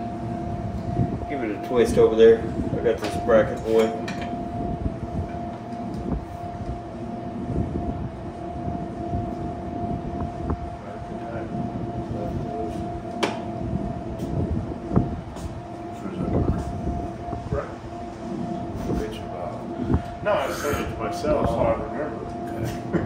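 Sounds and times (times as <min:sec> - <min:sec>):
machine rumble and hum: 0:00.0 - 0:23.0.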